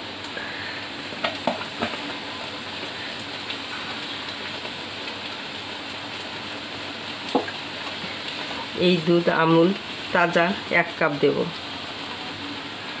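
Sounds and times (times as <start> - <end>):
food bubbling and sizzling: 0.0 - 13.0.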